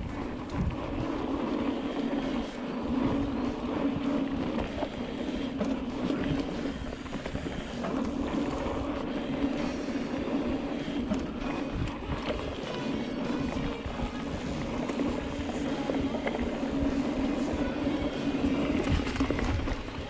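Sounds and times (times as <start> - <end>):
bike rattles and clicks: 0.0 - 20.0
bike tyres on dirt: 0.0 - 20.0.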